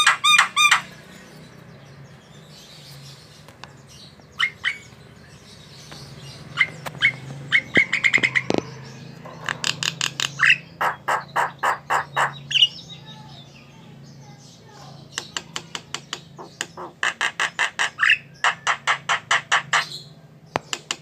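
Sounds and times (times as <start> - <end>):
starling calling: 0.0 - 13.7, 14.5 - 21.0.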